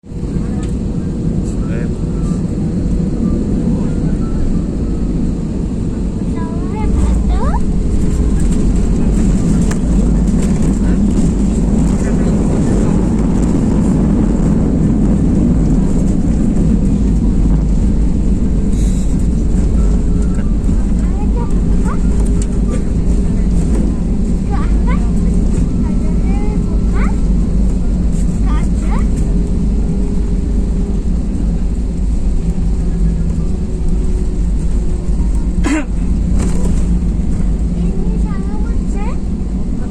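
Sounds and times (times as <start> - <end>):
airplane engine drone in cabin: 0.0 - 39.9.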